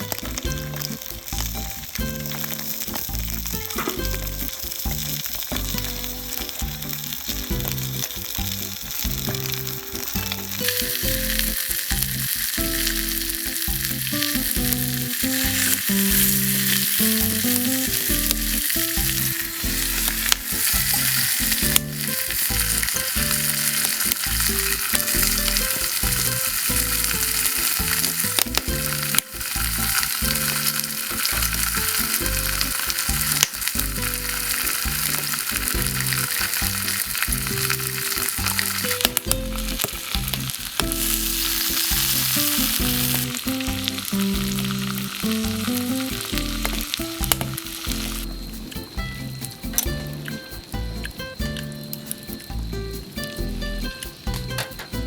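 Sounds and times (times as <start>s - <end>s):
pan or tongs clicking: 0.0s - 52.6s
background music with bass: 0.0s - 55.0s
meat sizzling in a frying pan: 0.1s - 50.2s.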